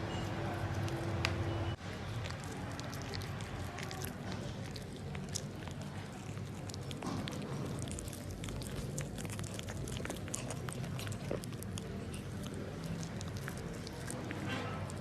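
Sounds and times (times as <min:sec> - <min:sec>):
dog chewing: 0:00.0 - 0:15.0.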